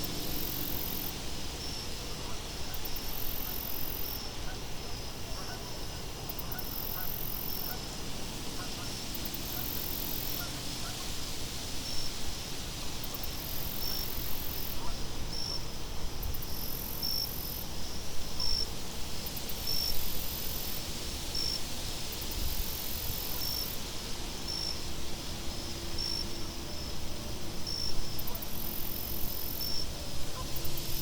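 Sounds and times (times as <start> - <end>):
crickets chirping: 0.0 - 31.0
high insect trills: 0.0 - 31.0
low rumble of wind: 0.0 - 31.0.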